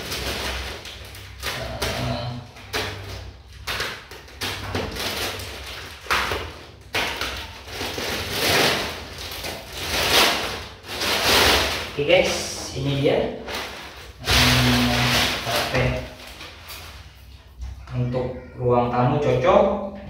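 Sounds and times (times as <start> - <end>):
plastic crinkling: 0.0 - 18.1.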